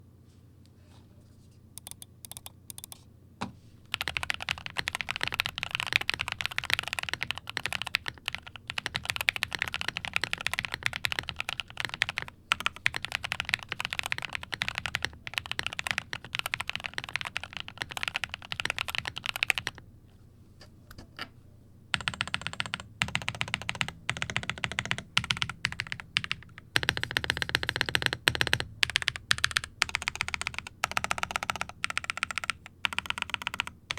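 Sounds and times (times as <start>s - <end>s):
typing on mechanical keyboard: 1.8s - 3.0s, 3.9s - 19.8s, 22.0s - 33.9s.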